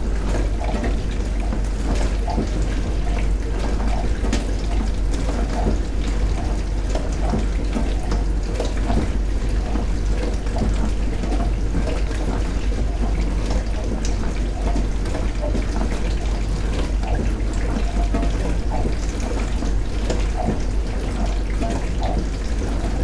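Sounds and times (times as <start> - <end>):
water churning and splashing: 0.0 - 23.0.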